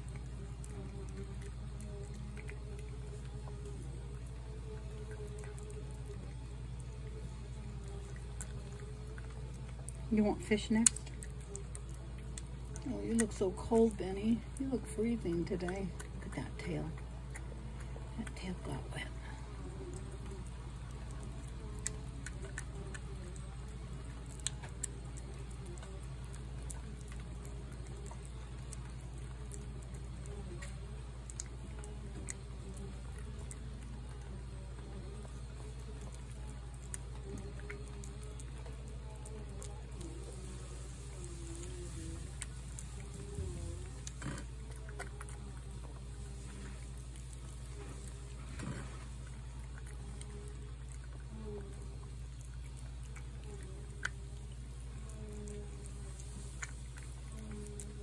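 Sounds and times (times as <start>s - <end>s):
cat chewing wet food: 0.0s - 58.0s
steady low hum: 0.0s - 58.0s.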